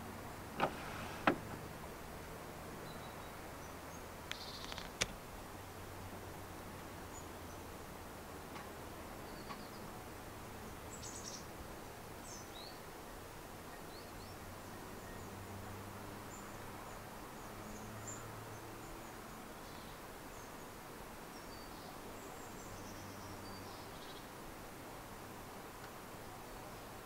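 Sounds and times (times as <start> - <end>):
faint outdoor hiss: 0.0 - 27.0.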